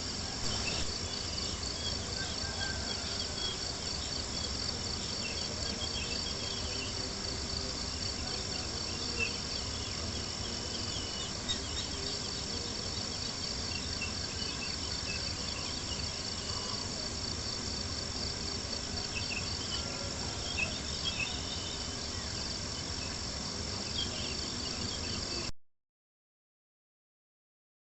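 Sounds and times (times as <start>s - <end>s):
crickets chirping: 0.0s - 25.5s.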